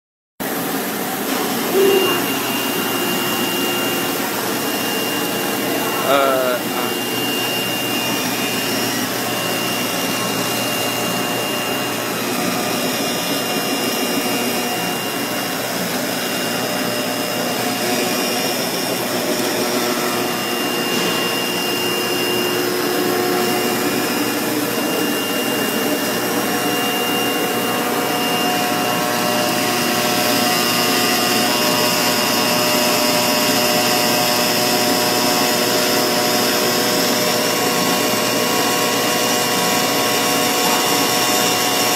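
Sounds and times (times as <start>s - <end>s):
foam-cutting machine whirring: 0.4s - 41.9s.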